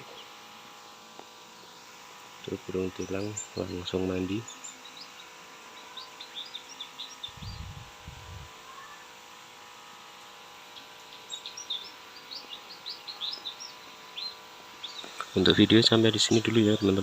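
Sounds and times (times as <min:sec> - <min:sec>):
faint steady hum: 0:00.0 - 0:17.0
small birds chirping: 0:00.0 - 0:17.0.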